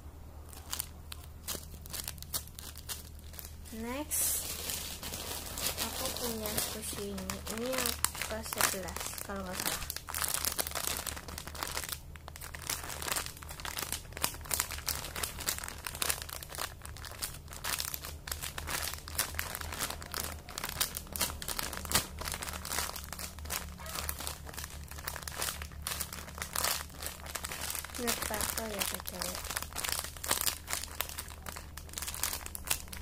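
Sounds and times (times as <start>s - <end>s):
squishy toy crinkling: 0.5s - 33.0s.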